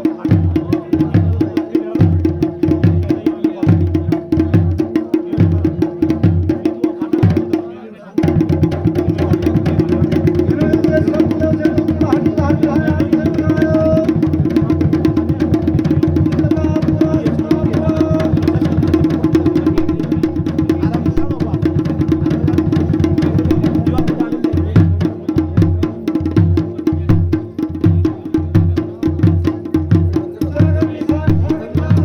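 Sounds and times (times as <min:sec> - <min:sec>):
fast drumming: 0:00.0 - 0:32.0.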